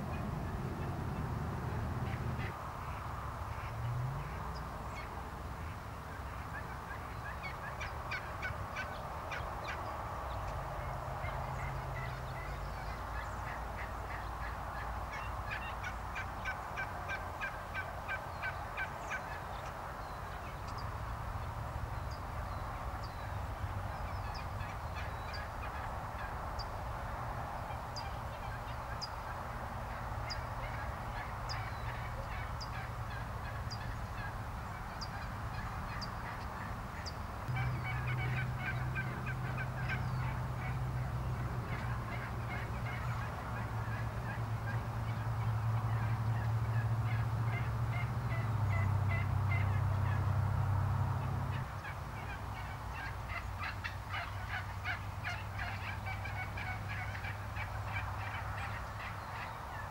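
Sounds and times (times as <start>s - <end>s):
turkeys gobbling: 0.0s - 20.8s, 23.0s - 26.8s, 27.6s - 50.4s, 51.2s - 59.9s.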